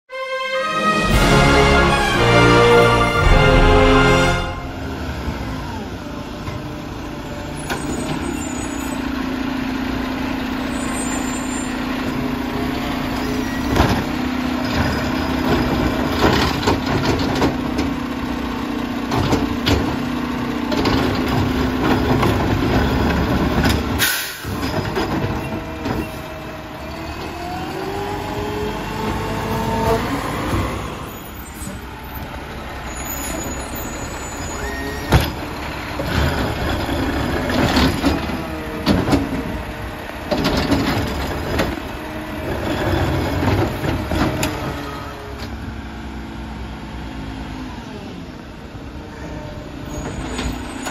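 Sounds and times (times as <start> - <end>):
garbage truck engine running: 0.7 - 50.9.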